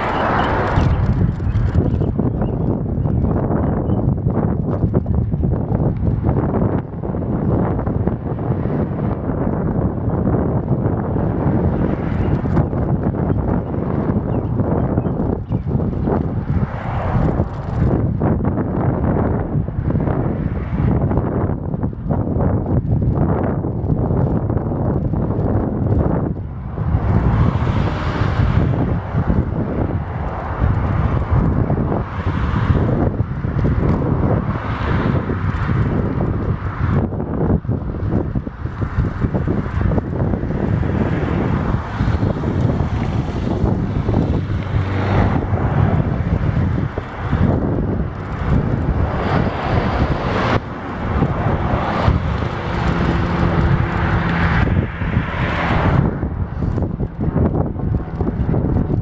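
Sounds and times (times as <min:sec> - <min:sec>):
cars passing: 0:00.0 - 0:59.0
road traffic: 0:00.0 - 0:59.0
wind buffeting microphone: 0:00.0 - 0:59.0.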